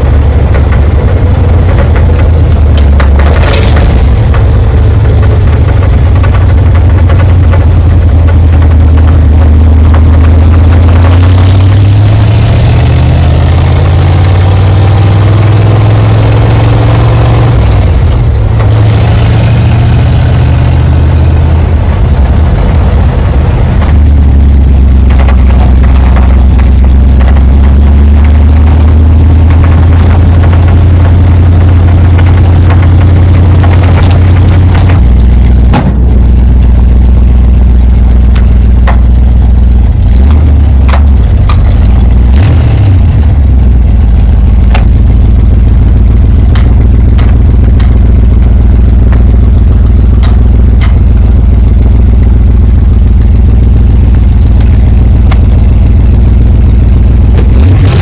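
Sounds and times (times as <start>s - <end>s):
truck engine accelerating: 0.0s - 58.0s
wind and road noise: 0.0s - 58.0s.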